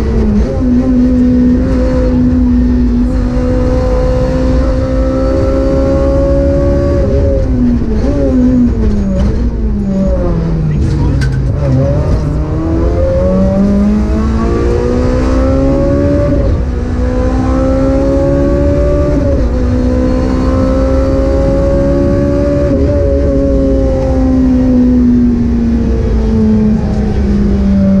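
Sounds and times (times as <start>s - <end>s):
car engine accelerating hard: 0.0s - 28.0s
tyre and road noise: 0.0s - 28.0s.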